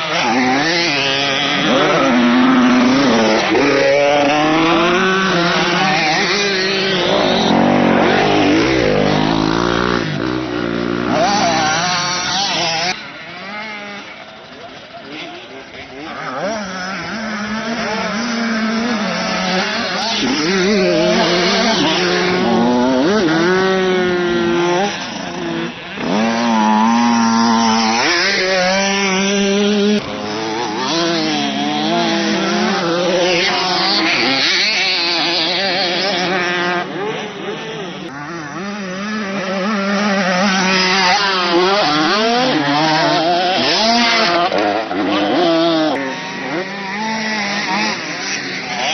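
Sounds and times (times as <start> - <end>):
motocross motorcycle engines revving: 0.0 - 48.9.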